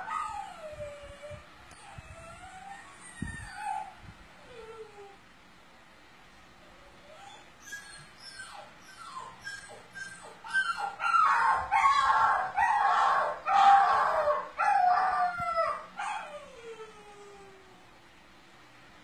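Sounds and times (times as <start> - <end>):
puppies whining: 0.0 - 5.2, 6.8 - 17.8.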